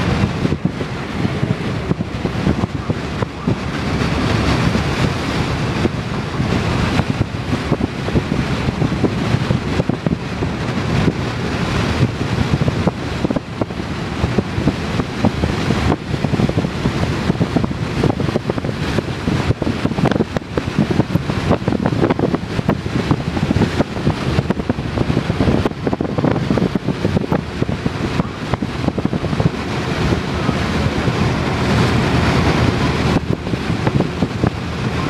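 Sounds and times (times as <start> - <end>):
rushing wind: 0.0 - 35.0
vehicle road noise: 0.0 - 35.0
wind buffeting on microphone: 0.0 - 35.0.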